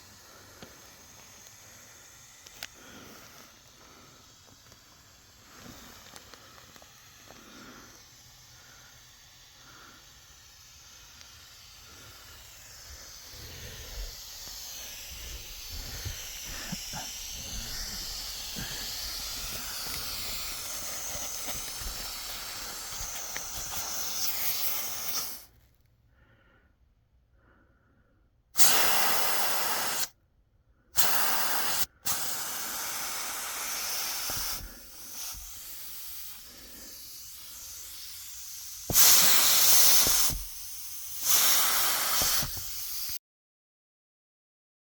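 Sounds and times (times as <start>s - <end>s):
blasts of air: 0.0s - 25.6s, 28.6s - 30.2s, 31.0s - 43.2s
air hissing through ducts: 0.0s - 26.6s, 28.5s - 30.2s, 30.9s - 43.2s.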